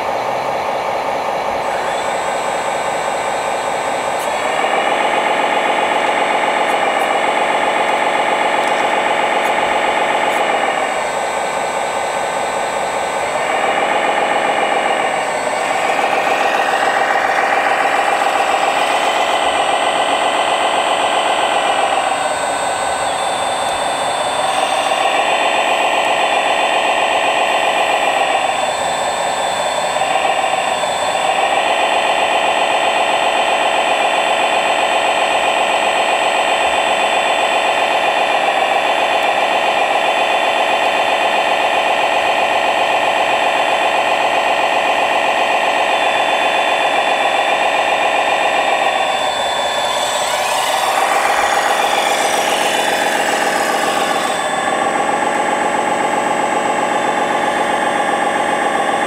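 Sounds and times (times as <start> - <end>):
electric motor and hydraulic whine: 0.0 - 59.0.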